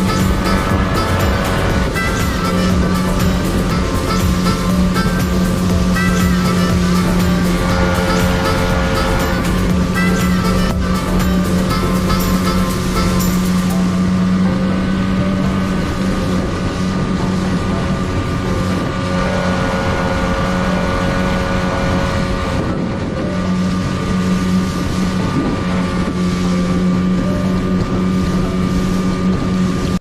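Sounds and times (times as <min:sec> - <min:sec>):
boat engine humming: 0:00.0 - 0:30.0
wind on microphone: 0:00.0 - 0:30.0.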